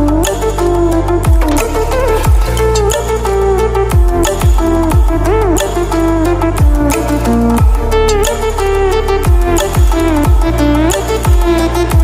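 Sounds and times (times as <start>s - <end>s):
electronic music with bass kicks: 0.0s - 12.0s.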